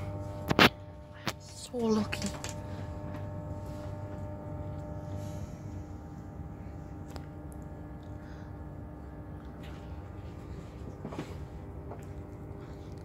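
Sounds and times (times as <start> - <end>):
train coach interior hum: 0.0 - 13.0.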